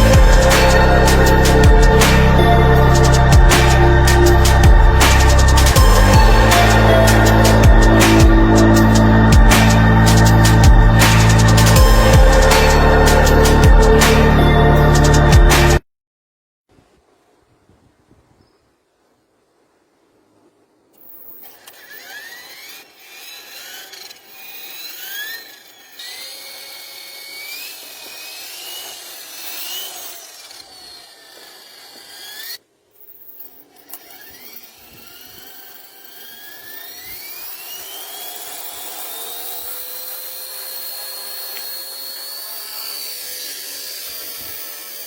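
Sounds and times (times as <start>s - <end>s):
small electric motor whining: 0.0s - 15.8s, 21.0s - 45.0s.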